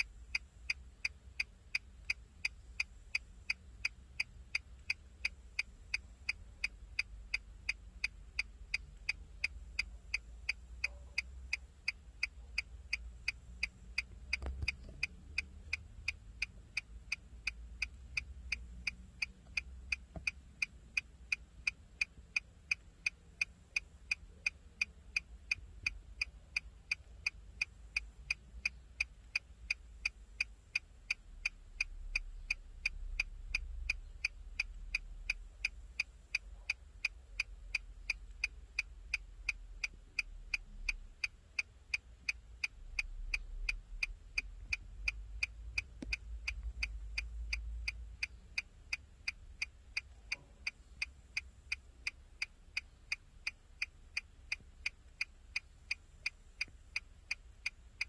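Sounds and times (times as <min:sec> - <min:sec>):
turn signal ticking: 0:00.0 - 0:58.0.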